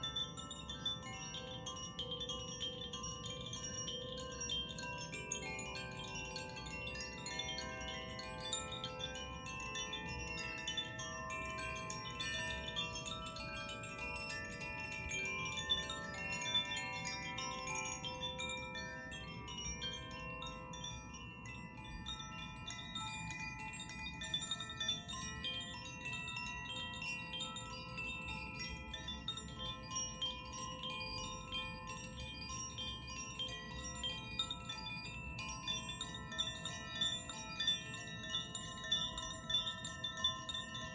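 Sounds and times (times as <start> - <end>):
tuned chimes ringing: 0.0 - 40.9.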